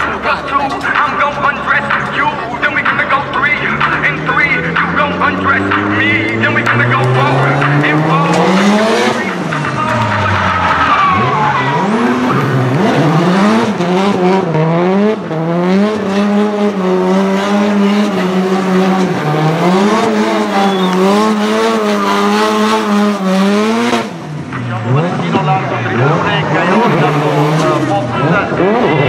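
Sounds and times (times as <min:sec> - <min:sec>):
car engine revving high: 0:00.0 - 0:29.0
tyres spinning and skidding: 0:00.0 - 0:29.0.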